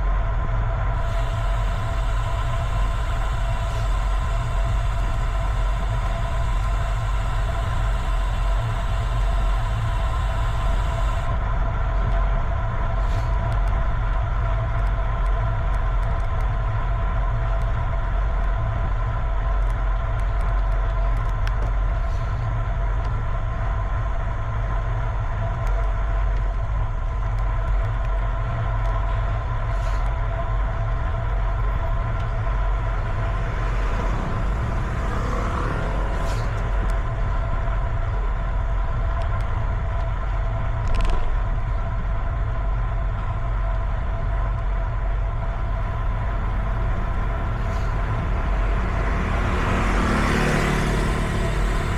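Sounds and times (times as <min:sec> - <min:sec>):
mid-pitched hum: 0:00.0 - 0:51.9
wind rumble on microphone: 0:00.0 - 0:51.9.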